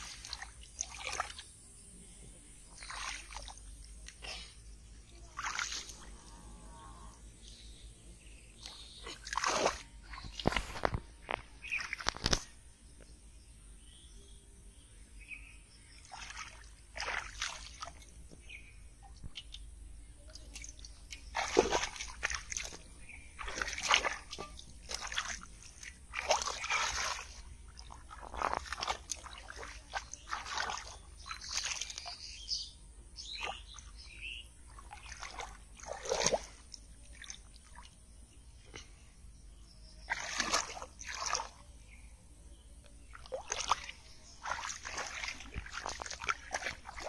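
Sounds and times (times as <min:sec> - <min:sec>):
muddy water splashing: 0:00.0 - 0:01.8, 0:02.5 - 0:12.8, 0:15.8 - 0:42.1, 0:42.7 - 0:47.0.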